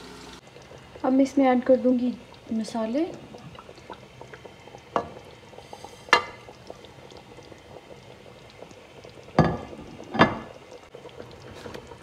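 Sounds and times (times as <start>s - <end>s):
gravy bubbling in a pot: 0.0s - 12.0s.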